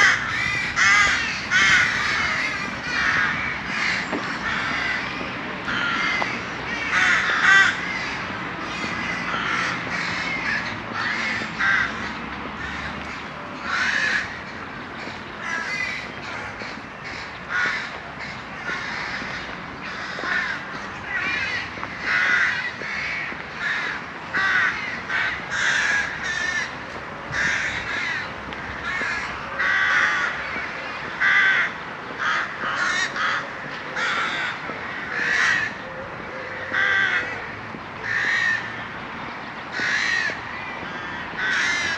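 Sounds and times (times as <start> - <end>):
flock of birds calling: 0.0 - 41.9.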